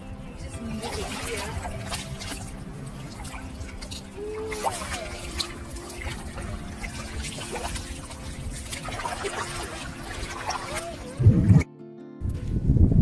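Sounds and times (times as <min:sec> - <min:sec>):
low water rush: 0:00.0 - 0:11.7
water sloshing around wading feet: 0:00.4 - 0:11.7.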